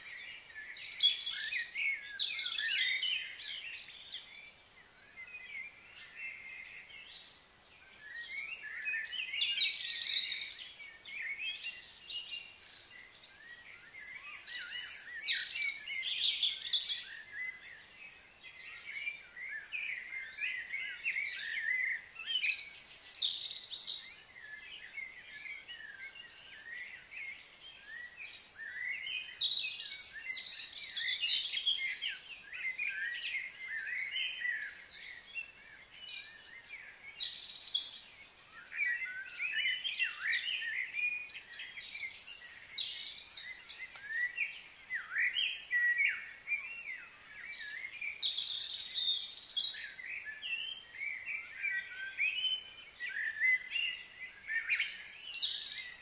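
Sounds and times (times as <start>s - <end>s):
birds chirping and singing: 0.0s - 56.0s
faint outdoor background noise: 0.0s - 56.0s.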